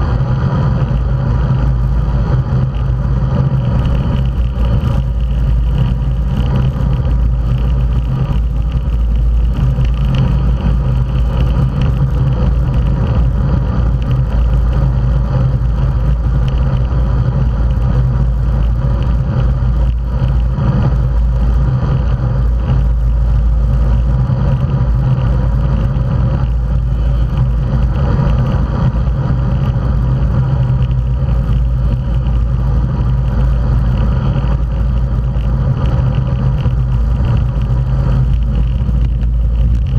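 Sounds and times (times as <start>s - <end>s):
bicycle tyre rumble: 0.0s - 39.9s
low steady hum: 0.0s - 39.9s
wind noise: 0.0s - 39.9s.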